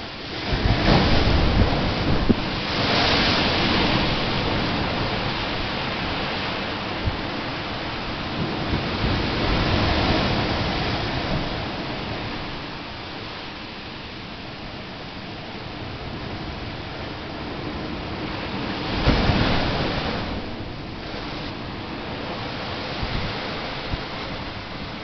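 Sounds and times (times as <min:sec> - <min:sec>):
waves crashing against seawall: 0:00.0 - 0:25.0.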